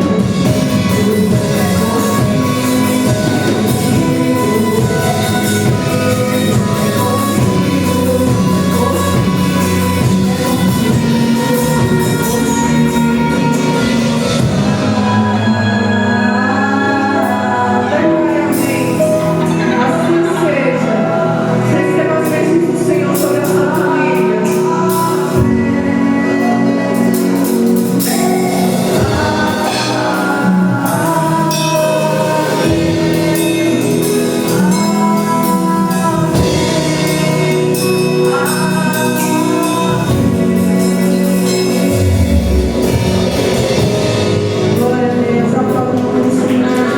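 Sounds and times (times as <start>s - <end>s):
band playing: 0.0s - 46.9s
voices singing together: 0.0s - 46.9s.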